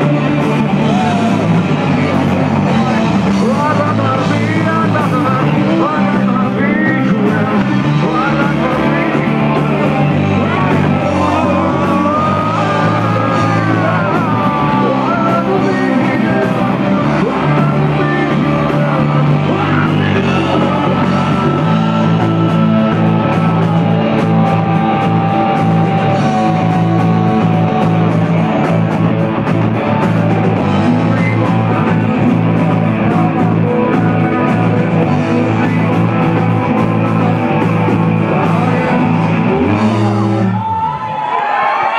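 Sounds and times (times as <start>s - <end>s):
drums: 0.0s - 41.9s
live rock band playing: 0.0s - 41.9s
singer shouting and singing: 0.0s - 41.9s.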